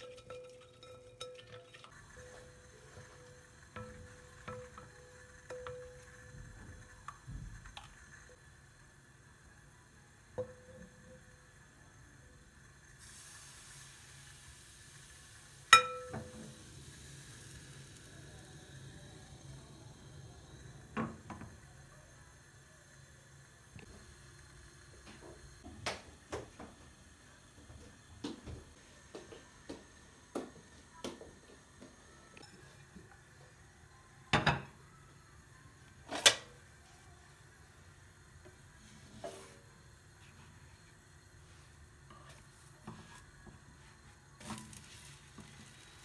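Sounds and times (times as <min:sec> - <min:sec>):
batter sizzling in pan: 0:00.0 - 0:35.3, 0:36.0 - 0:46.0.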